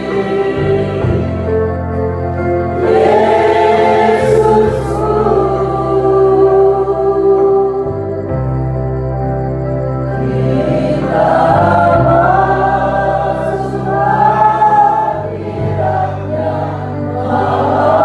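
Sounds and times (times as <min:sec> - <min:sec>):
congregation singing: 0:00.0 - 0:18.0
instrumental accompaniment with bass chords: 0:00.0 - 0:18.0.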